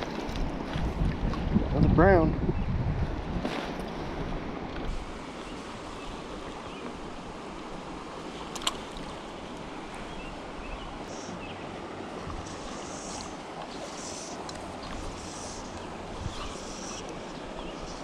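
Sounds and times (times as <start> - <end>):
river running over rocks: 3.6 - 18.0.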